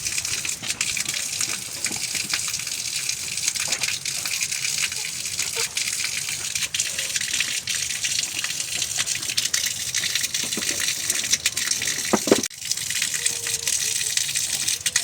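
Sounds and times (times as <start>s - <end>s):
small splashes and drips: 0.0s - 15.0s
water rushing: 0.0s - 15.0s.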